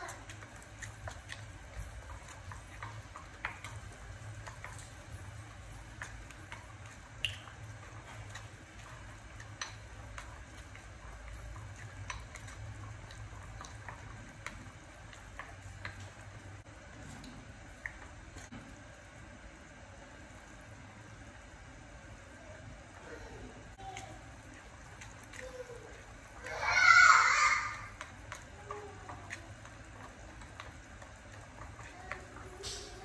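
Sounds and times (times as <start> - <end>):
spoon mashing wet paste: 0.0 - 18.7, 23.7 - 33.0.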